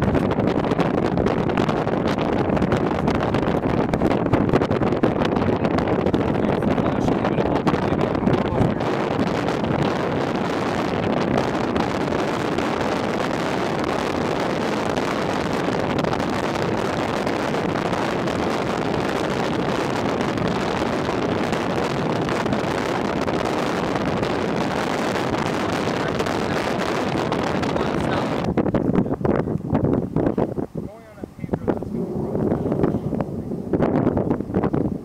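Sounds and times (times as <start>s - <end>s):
wind rushing across microphone: 0.0s - 35.0s.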